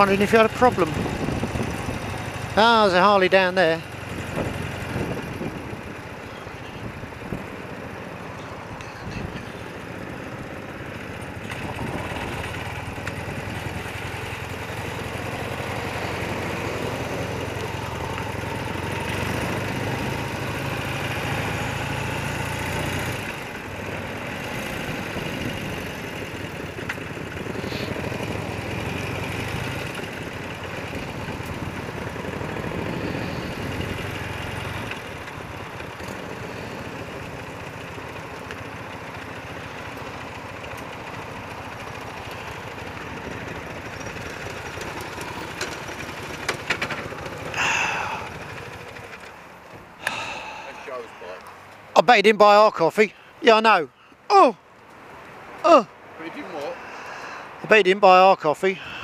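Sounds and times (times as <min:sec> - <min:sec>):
motorcycle engine running: 0:00.0 - 0:51.7.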